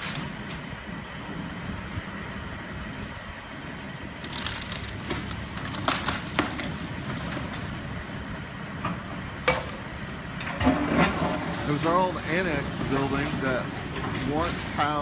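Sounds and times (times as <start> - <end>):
machinery engine running: 0.0 - 15.0.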